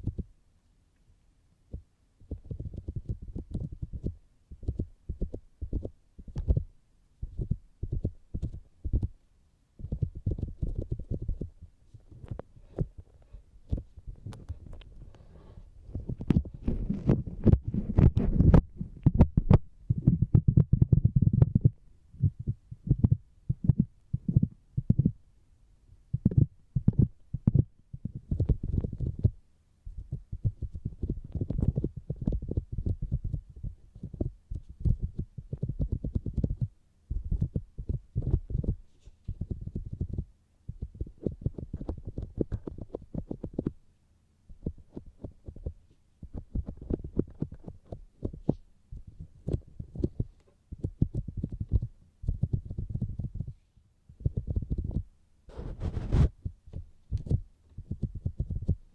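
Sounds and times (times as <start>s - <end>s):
fingers tapping on microphone: 0.0s - 0.3s, 1.7s - 9.2s, 9.8s - 15.2s, 15.9s - 25.2s, 26.1s - 43.8s, 44.5s - 58.8s.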